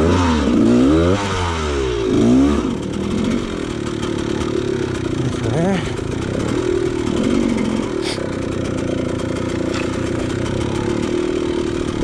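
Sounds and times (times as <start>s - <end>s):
dirt bike engine at low revs: 0.0s - 12.0s.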